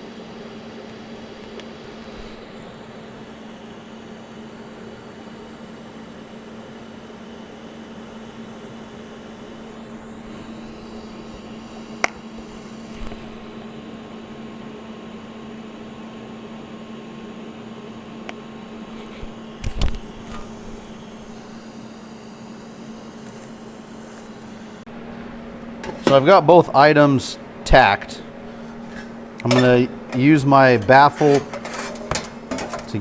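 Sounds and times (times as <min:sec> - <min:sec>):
electrical hum of welding equipment: 0:00.0 - 0:33.0.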